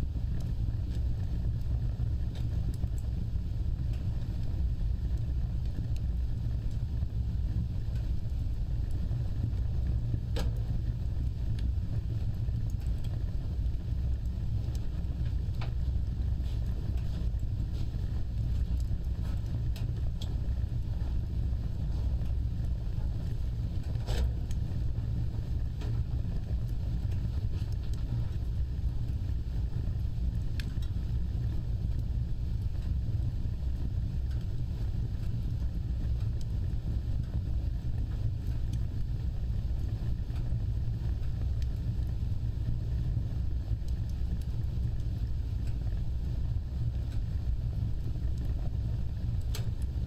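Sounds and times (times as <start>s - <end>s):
fire crackling and popping: 0.0s - 50.0s
wood fire roaring: 0.0s - 50.0s.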